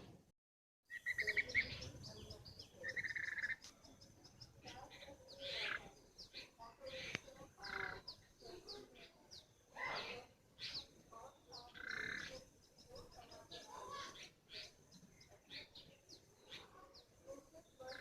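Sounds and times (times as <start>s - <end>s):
high bird chirps: 0.9s - 18.0s.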